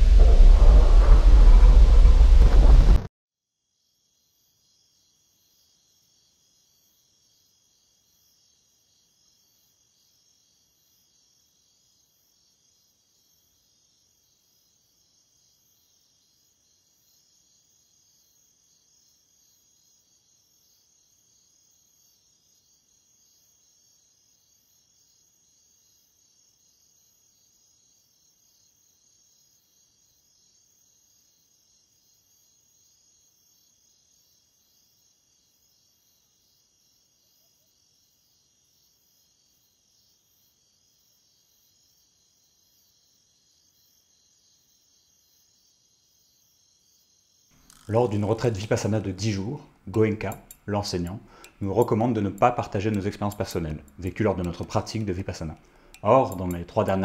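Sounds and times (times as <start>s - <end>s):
faint high-pitched pulsing chirr: 3.8s - 57.0s.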